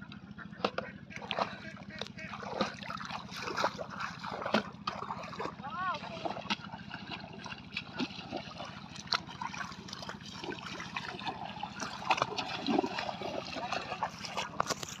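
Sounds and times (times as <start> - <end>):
wading through shallow water: 0.0 - 15.0.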